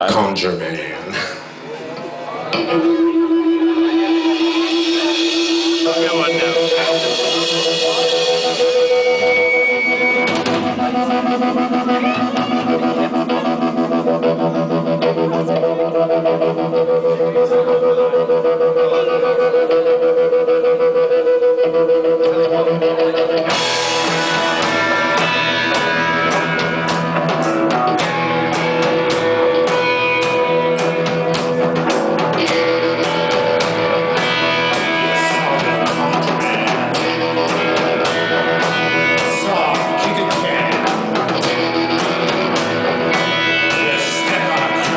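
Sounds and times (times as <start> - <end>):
guitar: 0.0 - 44.9
live rock band playing: 0.0 - 44.9
drums and cymbals: 2.6 - 17.8, 23.1 - 44.9.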